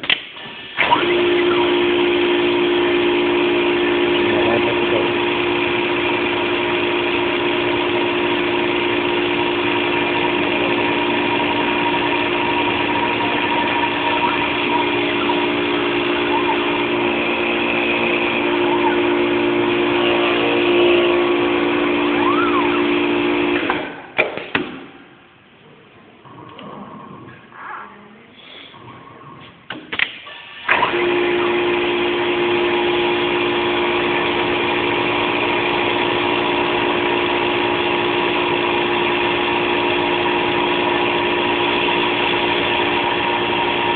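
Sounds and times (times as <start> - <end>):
lathe mechanical hum: 0.6 - 24.1, 30.6 - 43.9.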